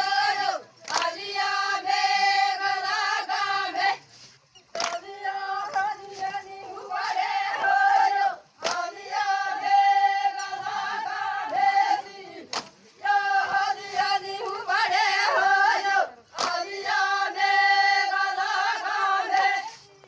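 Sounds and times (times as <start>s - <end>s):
voices singing folk song: 0.0s - 20.0s.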